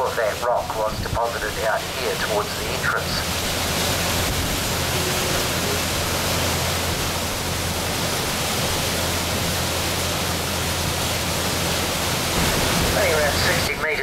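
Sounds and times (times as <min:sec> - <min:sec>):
low boat engine drone: 0:00.0 - 0:14.0
wind and churned water rushing: 0:00.0 - 0:14.0.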